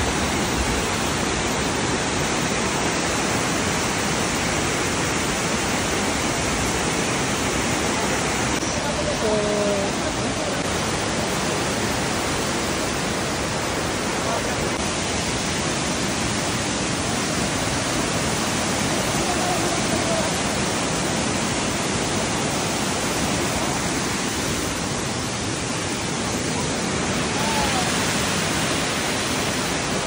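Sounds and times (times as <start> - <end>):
waterfall rushing over boulders: 0.0 - 30.0.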